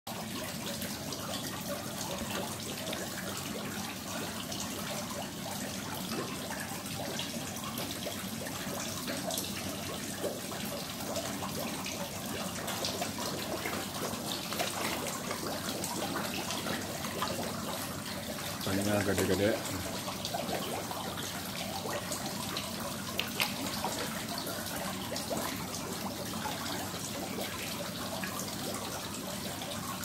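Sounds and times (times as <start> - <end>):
fish splashing and slurping: 0.1 - 30.0.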